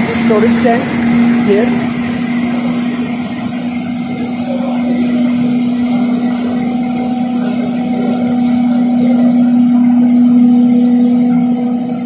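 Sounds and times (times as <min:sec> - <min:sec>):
machine hum from pumps: 0:00.0 - 0:12.0.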